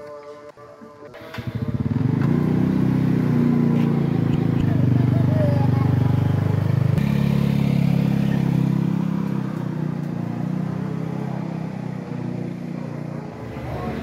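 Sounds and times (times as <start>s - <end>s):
small motorbike engine pulling away: 1.1s - 14.0s.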